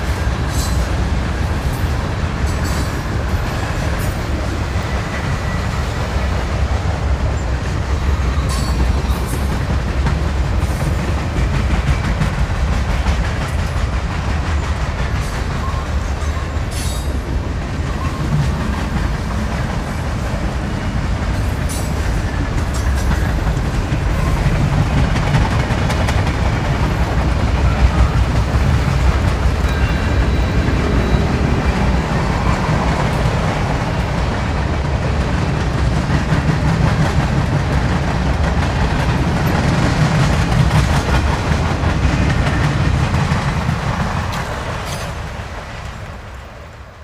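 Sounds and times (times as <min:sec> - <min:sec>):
wheels rattling over track: 0:00.0 - 0:47.0.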